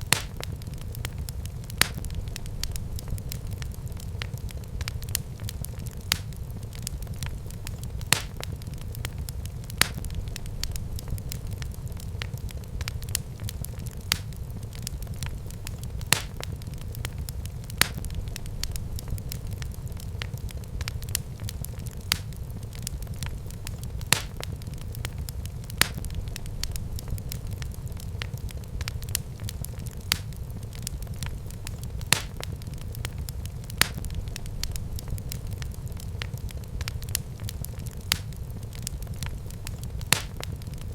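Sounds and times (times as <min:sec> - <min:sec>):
fire popping: 0:00.0 - 0:40.9
low fire rumble: 0:00.0 - 0:40.9
wood fire crackling: 0:00.0 - 0:40.9.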